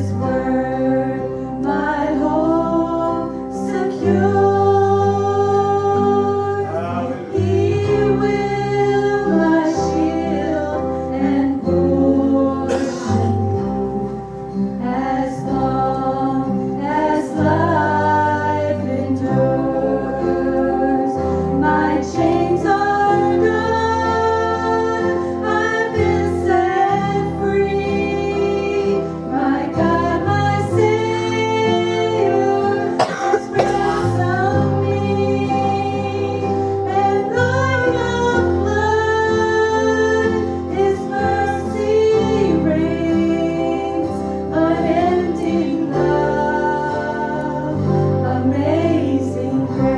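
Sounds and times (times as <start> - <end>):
voices singing gospel song: 0.0 - 14.1, 14.8 - 49.9
instrumental accompaniment: 0.0 - 49.9.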